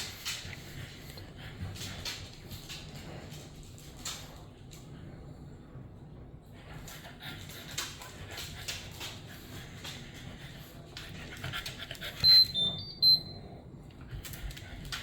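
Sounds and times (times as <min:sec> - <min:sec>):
breathy hiss with light clicks: 0:00.0 - 0:05.5, 0:06.6 - 0:12.9, 0:13.8 - 0:15.0.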